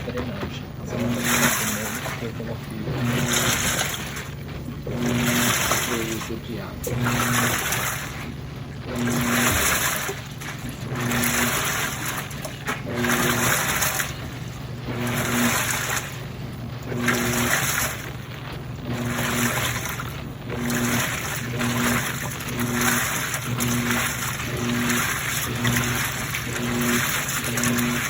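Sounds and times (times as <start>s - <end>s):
low motor hum: 0.0s - 28.0s
water sloshing in washing machine: 0.0s - 28.0s.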